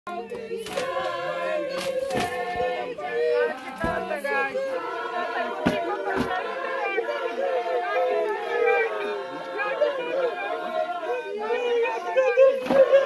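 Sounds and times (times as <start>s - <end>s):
group singing unaccompanied: 0.1s - 13.0s
people talking: 0.2s - 13.0s.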